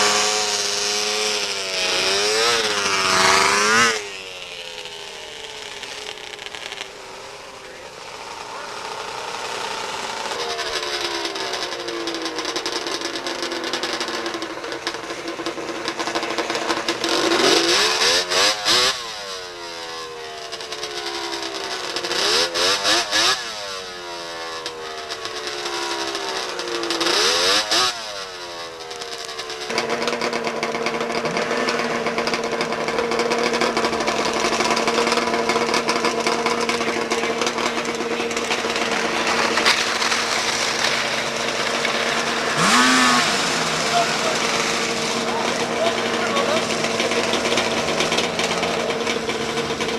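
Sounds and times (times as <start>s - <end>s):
engines running steadily: 0.0s - 49.9s
snowmobile engines revving: 0.0s - 49.9s.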